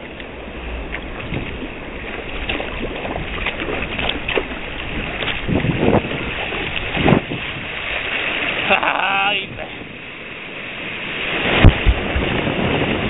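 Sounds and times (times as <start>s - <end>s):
water splashing against a kayak: 0.0s - 13.0s
wind buffeting microphone: 0.0s - 13.0s.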